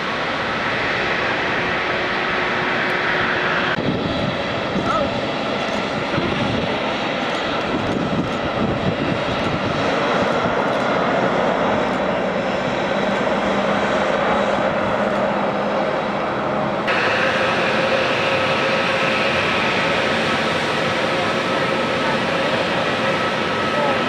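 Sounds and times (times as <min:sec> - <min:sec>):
airliner engines running: 0:00.0 - 0:24.0.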